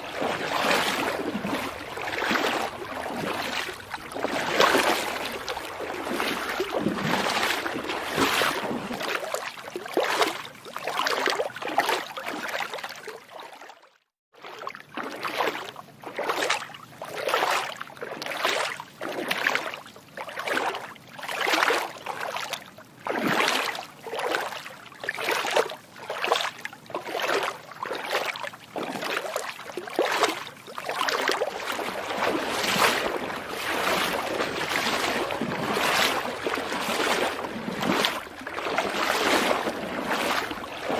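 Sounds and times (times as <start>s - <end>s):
feet wading through water: 0.0s - 40.9s.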